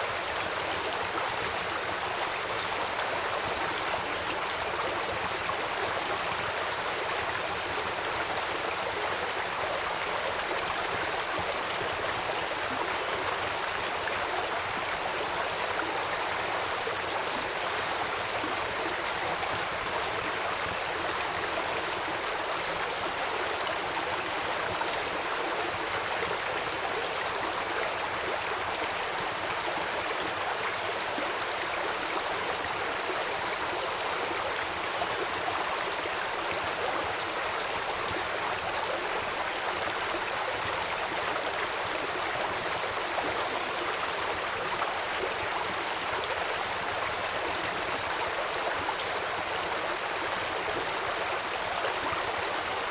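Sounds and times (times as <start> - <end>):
stream water flowing: 0.0 - 52.9.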